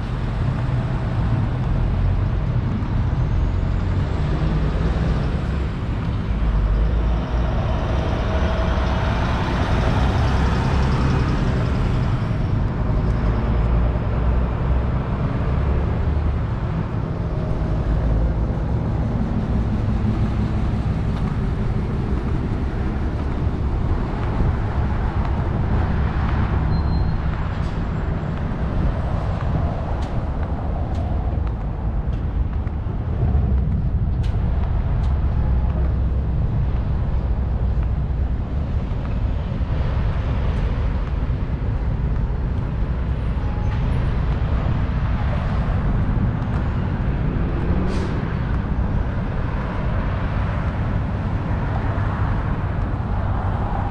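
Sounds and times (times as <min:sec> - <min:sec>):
vehicle engine rumble: 0:00.0 - 0:53.9.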